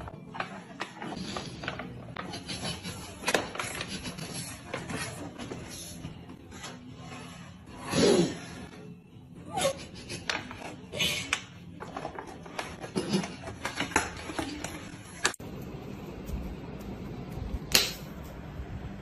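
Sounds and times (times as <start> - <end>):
noisy background: 0.0 - 19.0.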